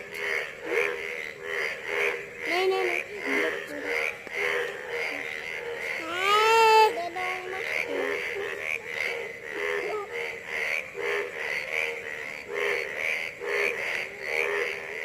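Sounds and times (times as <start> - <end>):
frogs calling: 0.0 - 15.0.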